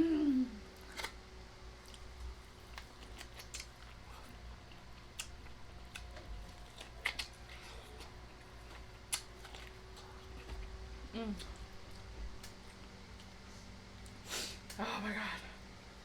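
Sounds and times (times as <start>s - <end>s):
person chewing crunchy food: 0.8s - 14.8s.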